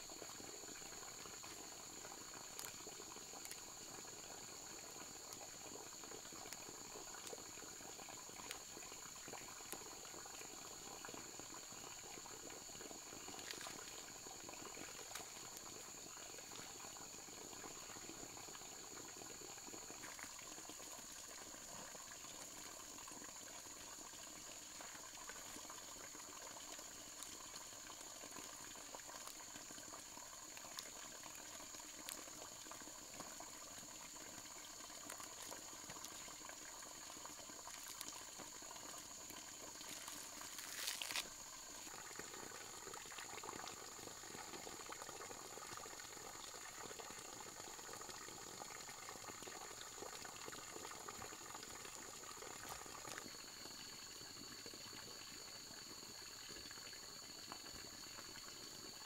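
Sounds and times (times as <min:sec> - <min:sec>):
soft bubbling hiss: 0:00.0 - 0:59.0.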